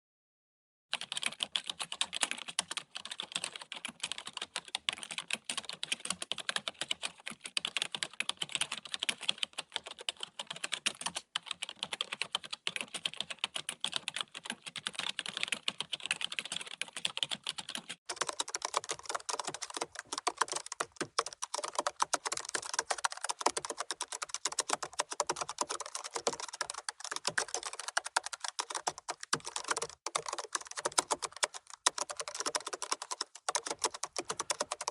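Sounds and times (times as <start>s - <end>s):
fast typing on computer keyboard: 0.9s - 34.9s.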